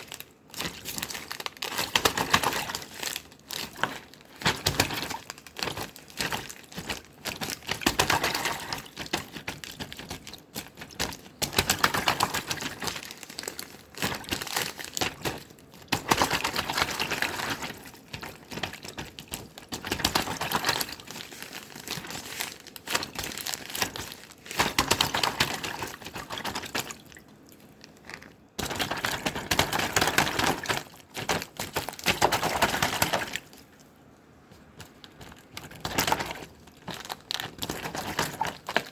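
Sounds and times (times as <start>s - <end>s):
slime squishing by hand: 0.0s - 38.9s.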